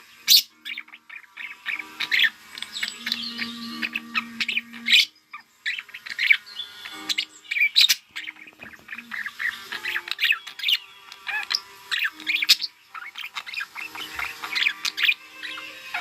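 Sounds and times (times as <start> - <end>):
budgerigars chattering: 0.0 - 16.0.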